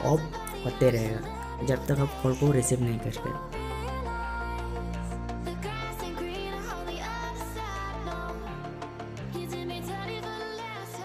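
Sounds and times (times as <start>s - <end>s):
melodic background music: 0.0s - 11.0s.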